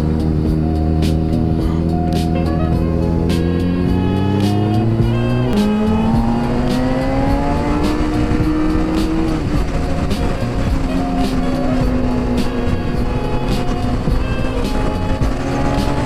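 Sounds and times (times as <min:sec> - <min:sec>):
background music: 0:00.0 - 0:16.0
motorcycle accelerating: 0:00.0 - 0:16.0.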